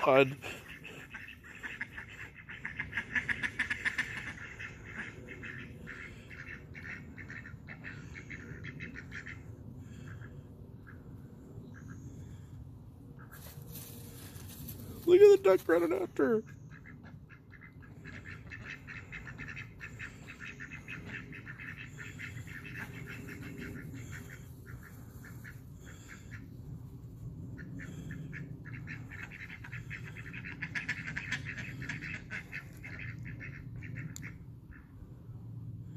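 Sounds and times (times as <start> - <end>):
ducks quacking: 0.0 - 11.1, 11.7 - 12.5, 15.5 - 26.6, 27.5 - 35.0
low background hum: 0.0 - 35.9.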